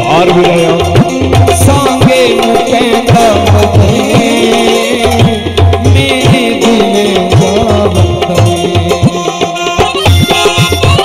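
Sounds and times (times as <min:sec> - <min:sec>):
man singing folk song: 0:00.0 - 0:10.8
tabla: 0:00.0 - 0:11.0.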